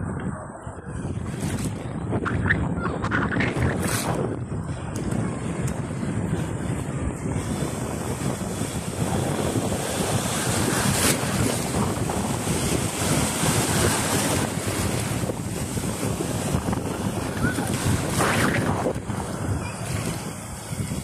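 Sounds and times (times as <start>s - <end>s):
wind buffeting microphone: 0.0s - 21.0s
small waves washing on shore: 3.7s - 21.0s.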